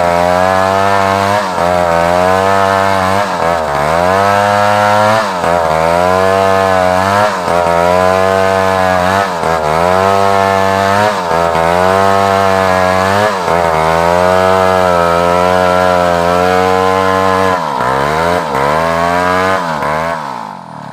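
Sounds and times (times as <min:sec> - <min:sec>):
chainsaw cutting log: 0:00.0 - 0:20.9.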